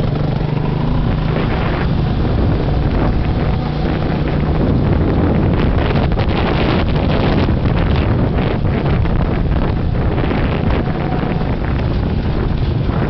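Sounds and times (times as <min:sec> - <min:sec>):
motorbike engine running: 0:00.0 - 0:13.0
wind buffeting microphone: 0:00.0 - 0:13.0.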